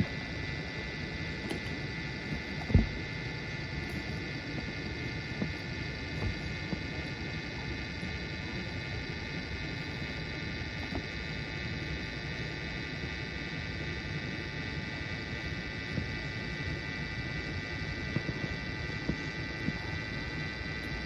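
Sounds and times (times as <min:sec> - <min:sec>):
machine hum with high whine: 0:00.0 - 0:21.0.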